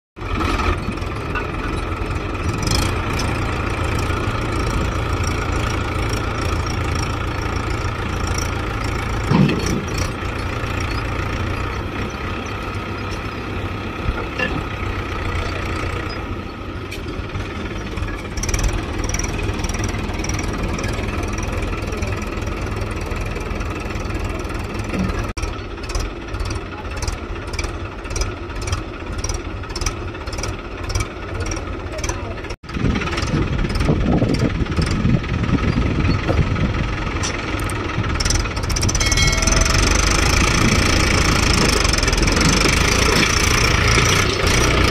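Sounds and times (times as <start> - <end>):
tractor diesel engine running: 0.2 - 44.9.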